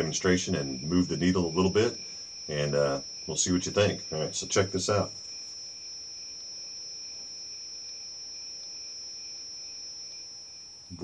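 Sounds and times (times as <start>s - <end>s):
faint room hiss: 0.0s - 11.0s
high-pitched whine: 0.0s - 11.0s.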